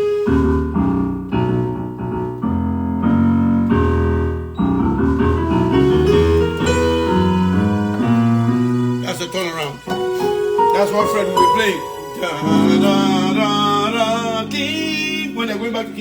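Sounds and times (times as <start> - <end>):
electric keyboard chords: 0.0 - 16.0.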